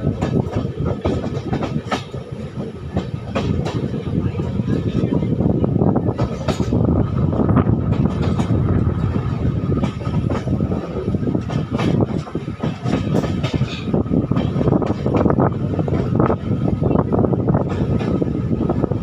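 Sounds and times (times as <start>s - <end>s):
wheels clattering over rails: 0.0s - 5.4s, 6.0s - 19.0s
train coaches rumbling: 0.0s - 19.0s.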